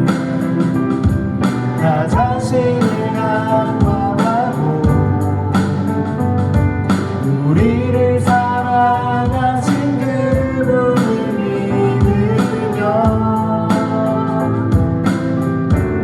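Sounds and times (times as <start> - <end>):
live song with singing: 0.0 - 16.0.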